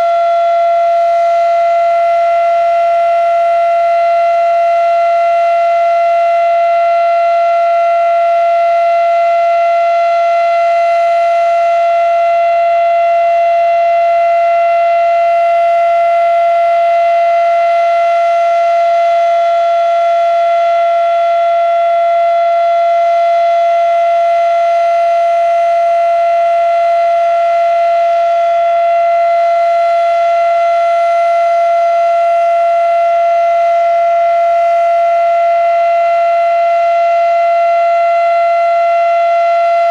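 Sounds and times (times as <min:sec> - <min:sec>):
warning siren steady high tone: 0:00.0 - 0:39.9.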